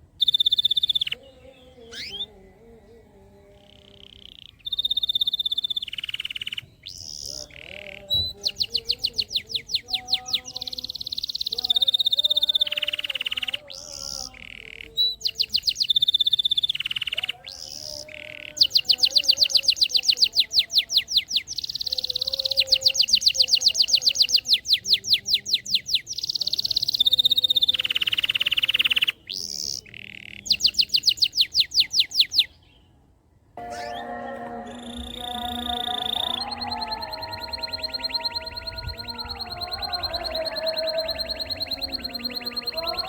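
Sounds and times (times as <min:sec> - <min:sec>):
canary singing trills: 0:00.0 - 0:32.9, 0:33.6 - 0:43.0.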